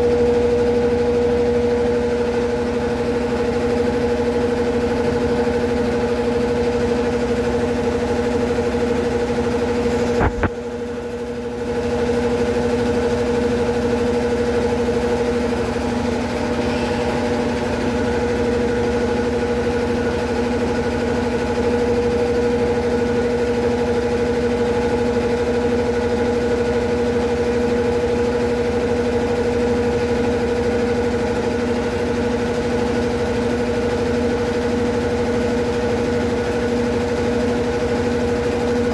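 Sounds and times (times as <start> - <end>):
washing machine motor hum: 0.0 - 38.9.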